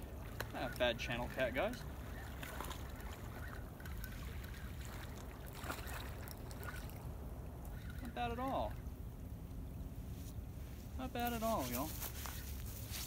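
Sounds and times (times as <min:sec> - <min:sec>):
river water rumbling: 0:00.0 - 0:13.0.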